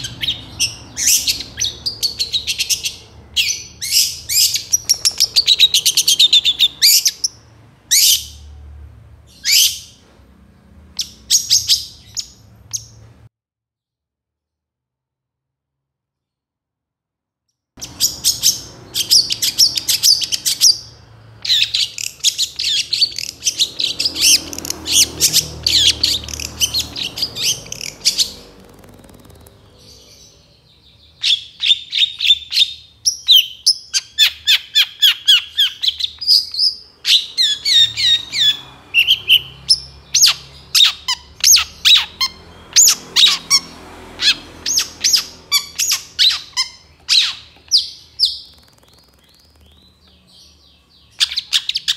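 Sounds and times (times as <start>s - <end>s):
bird chattering song: 0.0s - 8.5s, 11.0s - 13.0s, 17.8s - 51.9s.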